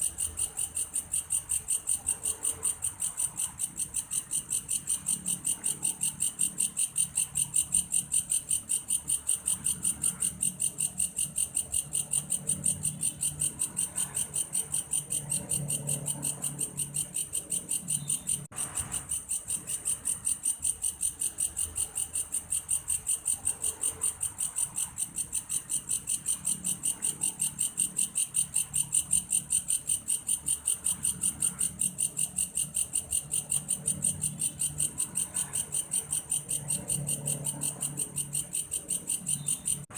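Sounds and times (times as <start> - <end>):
grasshopper pulsing call: 0.0 - 39.9.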